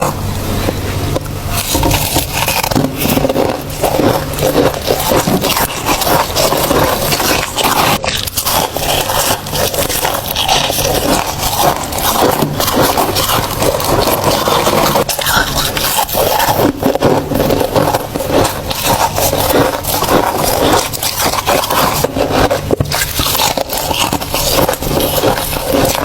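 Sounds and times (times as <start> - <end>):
person chewing ice: 0.0 - 26.0.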